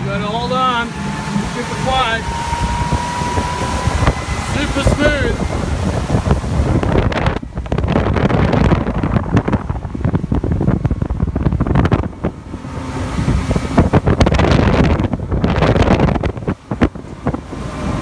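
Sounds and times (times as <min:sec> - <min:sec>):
outboard motor running: 0:00.0 - 0:18.0
rushing water: 0:00.0 - 0:18.0
wind buffeting microphone: 0:00.0 - 0:18.0.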